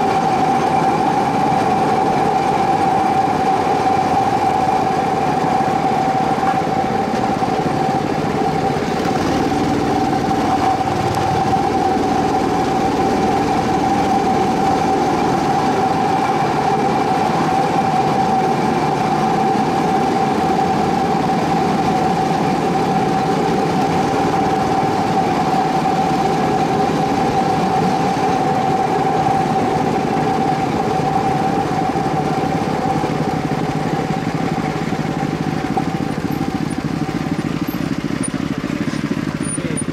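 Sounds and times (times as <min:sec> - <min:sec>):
constant whine: 0:00.0 - 0:39.9
rail cart engine drone: 0:00.0 - 0:39.9.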